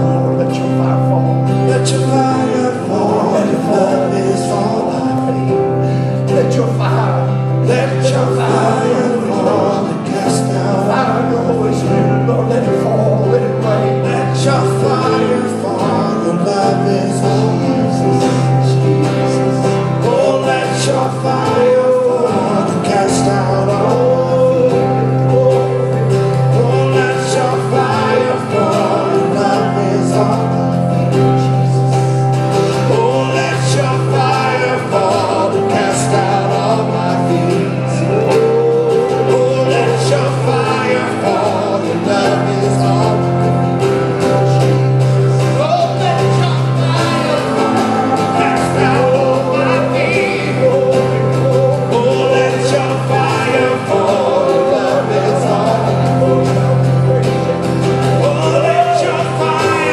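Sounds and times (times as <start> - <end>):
sustained keyboard chords: 0.0 - 59.9
voices singing: 0.0 - 59.9
worship band playing: 0.0 - 59.9.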